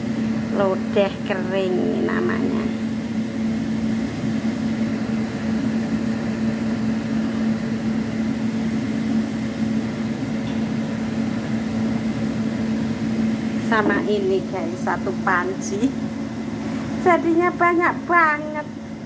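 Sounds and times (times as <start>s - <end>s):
electric fan motor hum: 0.0s - 19.0s.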